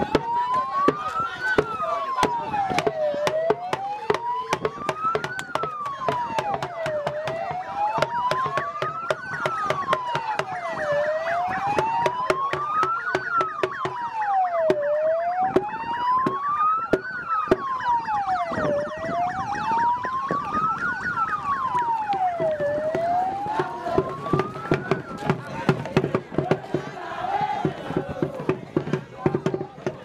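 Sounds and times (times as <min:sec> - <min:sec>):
siren wailing: 0:00.0 - 0:28.5.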